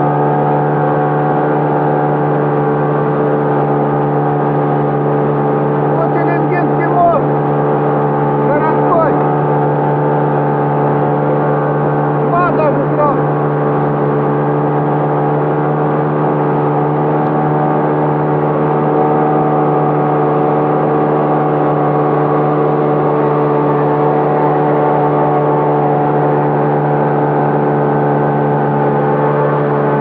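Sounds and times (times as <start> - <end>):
motorboat engine droning: 0.0 - 30.0.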